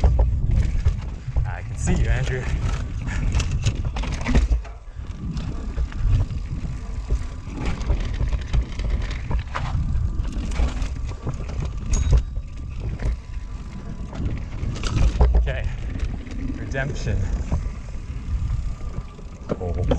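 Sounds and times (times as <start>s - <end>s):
bike knocks and rattles: 0.0s - 19.9s
bike tyres rolling over dirt: 0.0s - 19.9s.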